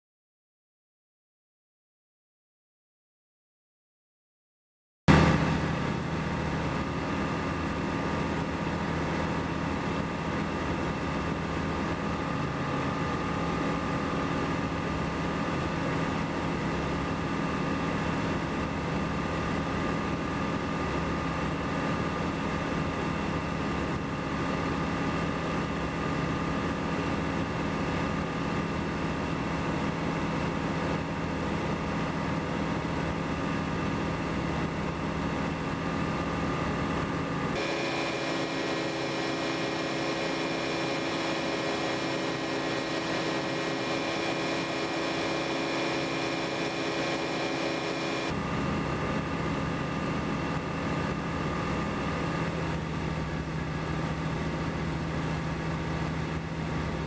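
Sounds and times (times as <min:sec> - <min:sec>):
light aircraft engine droning: 0:05.1 - 0:57.0.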